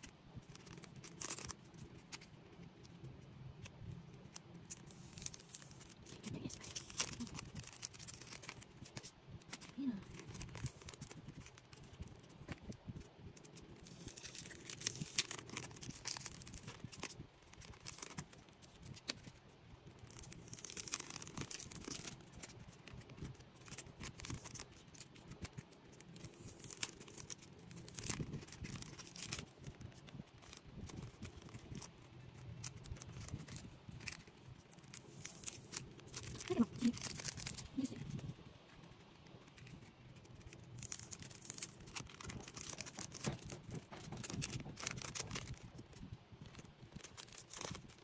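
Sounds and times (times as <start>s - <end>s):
plastic sleeves crinkling: 3.6s - 48.0s.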